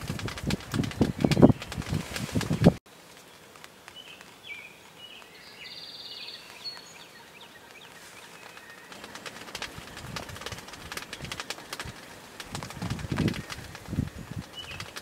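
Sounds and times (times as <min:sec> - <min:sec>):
open-field ambience: 0:00.0 - 0:15.0
songbirds chirping: 0:00.0 - 0:15.0.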